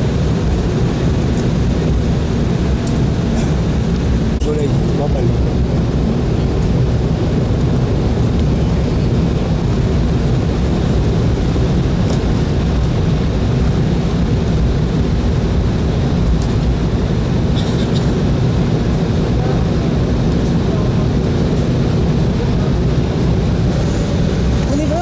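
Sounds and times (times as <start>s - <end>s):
jet engines humming in cabin: 0.0s - 25.0s.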